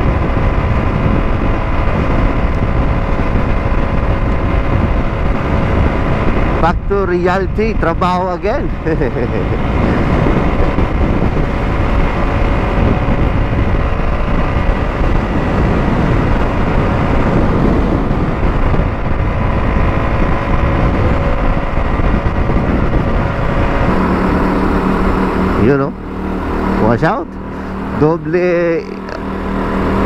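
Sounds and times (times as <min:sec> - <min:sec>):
motorcycle engine running: 0:00.0 - 0:30.0
wind rush on microphone: 0:00.0 - 0:30.0.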